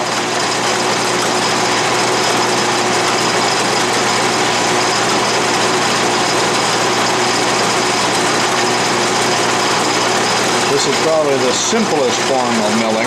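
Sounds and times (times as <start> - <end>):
end mill cutting metal: 0.0 - 13.0
lathe running: 0.0 - 13.0.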